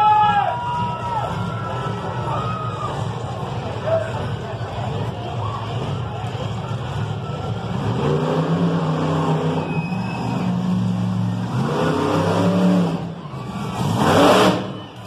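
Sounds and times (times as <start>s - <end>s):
monster truck engine revving: 0.2s - 15.0s.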